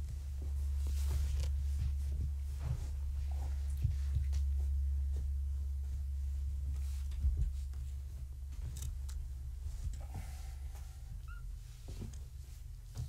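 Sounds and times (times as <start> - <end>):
low electrical hum: 0.0 - 13.0
kittens thumping on blanket: 0.1 - 13.0.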